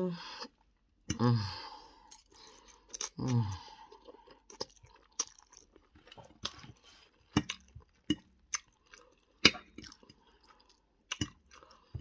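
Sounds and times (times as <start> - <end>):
person chewing food: 2.0 - 12.0.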